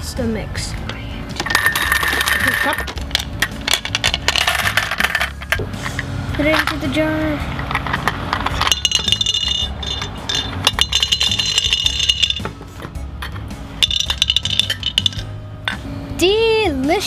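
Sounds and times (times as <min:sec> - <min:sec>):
hard candies clinking into jar: 0:01.4 - 0:07.0, 0:07.6 - 0:15.8.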